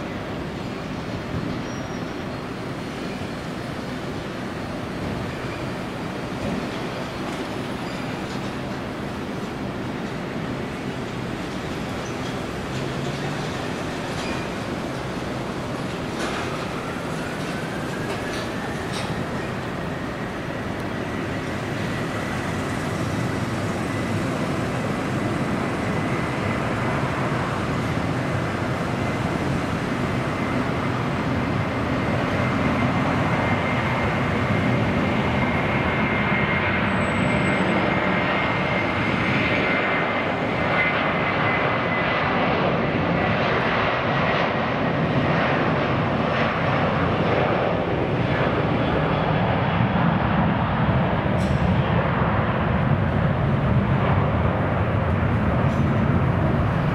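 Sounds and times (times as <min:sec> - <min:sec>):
jet engines at takeoff thrust: 0:00.0 - 0:56.9.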